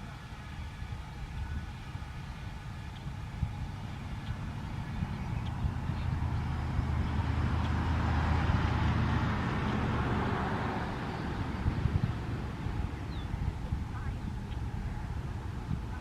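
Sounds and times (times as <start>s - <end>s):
low rumble: 0.0s - 16.0s
passing vehicle road noise: 0.0s - 16.0s.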